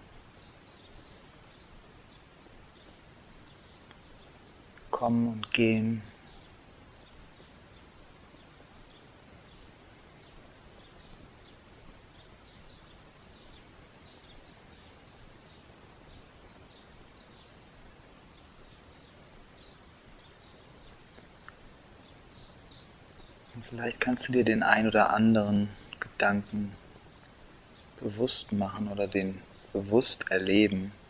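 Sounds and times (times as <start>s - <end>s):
birds chirping: 0.0s - 31.0s
steady background hiss: 0.0s - 31.0s.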